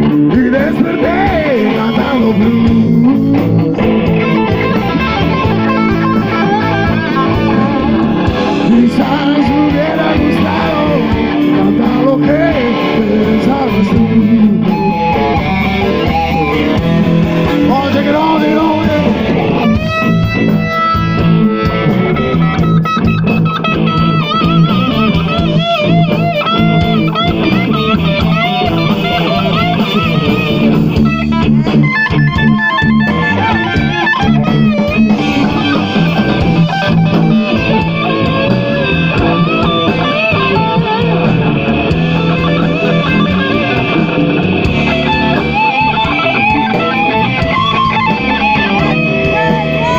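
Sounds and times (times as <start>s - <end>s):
electric guitar lead: 0.0s - 49.9s
steady bass line: 0.0s - 49.9s.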